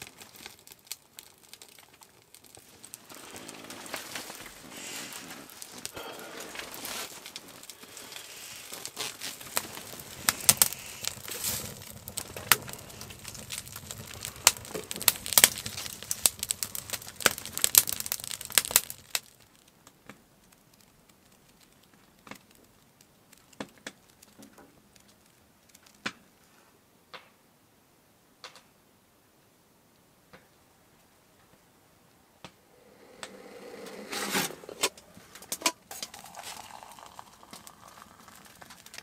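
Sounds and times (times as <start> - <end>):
wood fire crackling and popping: 0.0 - 26.5, 28.4 - 28.7, 32.4 - 39.0.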